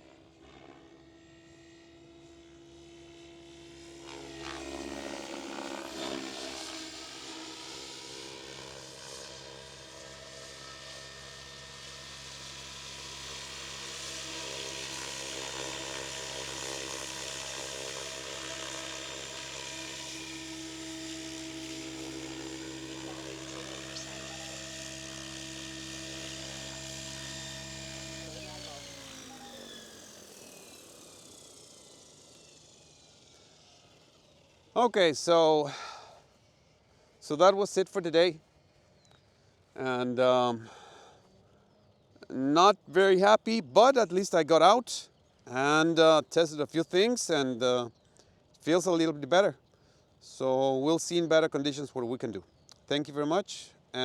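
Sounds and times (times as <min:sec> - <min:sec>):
rc helicopter rotor whine: 0:00.0 - 0:54.0.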